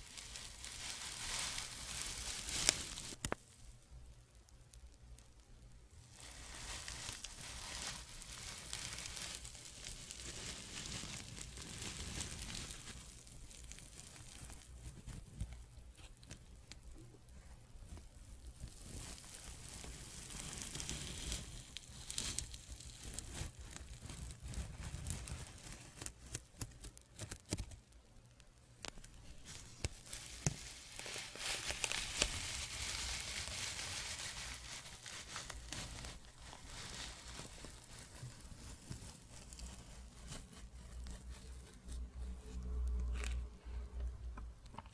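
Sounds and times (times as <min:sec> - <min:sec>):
soft crackly scratching: 0:00.0 - 0:03.8, 0:05.9 - 0:28.0, 0:28.6 - 0:44.9.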